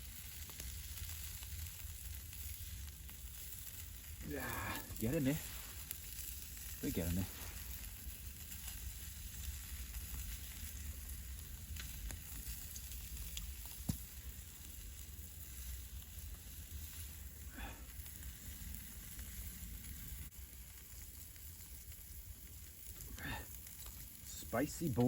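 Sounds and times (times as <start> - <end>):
meat sizzling over campfire: 0.0 - 25.0
sharp crack of fire: 0.0 - 25.0.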